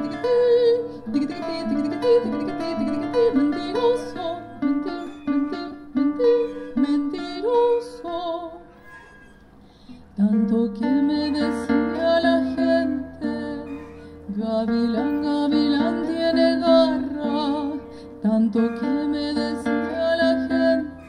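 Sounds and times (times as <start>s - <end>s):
woman singing wordless notes: 0.0s - 8.8s, 10.1s - 21.0s
acoustic guitar picking: 0.0s - 21.0s.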